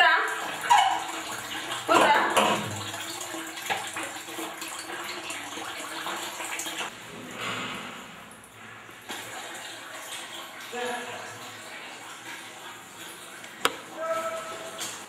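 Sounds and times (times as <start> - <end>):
water running: 0.0 - 15.0.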